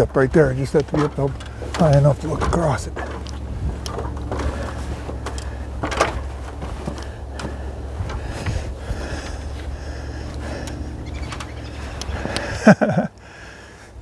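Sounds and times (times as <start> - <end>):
construction knocks and scrapes: 0.0 - 12.8
steady low hum: 0.0 - 14.0.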